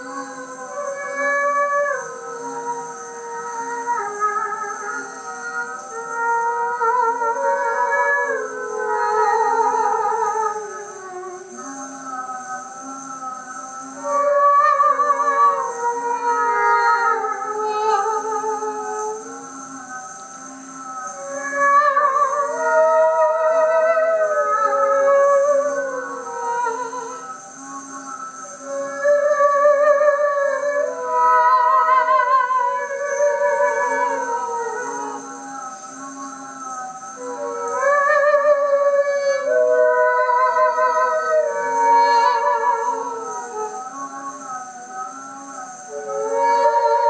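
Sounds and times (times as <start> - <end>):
wordless voices singing with vibrato: 0.0 - 47.0.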